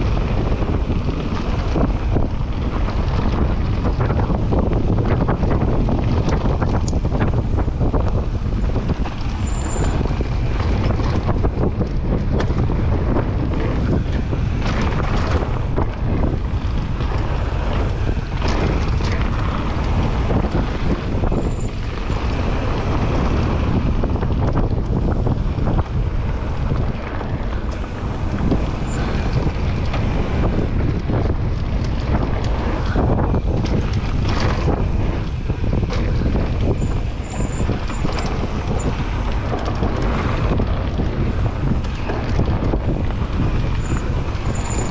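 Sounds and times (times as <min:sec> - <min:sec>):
bike knocks and rattles: 0:00.0 - 0:44.9
bike tyres on gravel: 0:00.0 - 0:44.9
wind buffeting microphone: 0:00.0 - 0:44.9.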